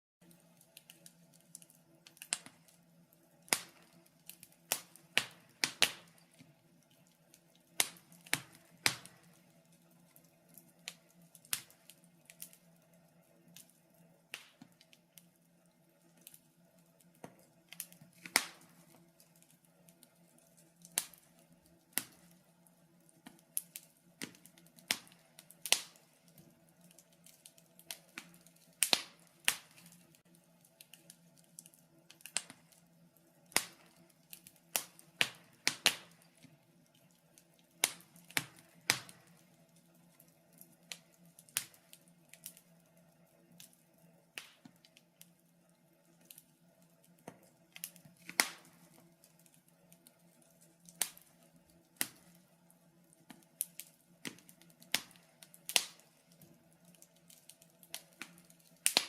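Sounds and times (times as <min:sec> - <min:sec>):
wood fire crackling and popping: 0:00.2 - 0:59.0.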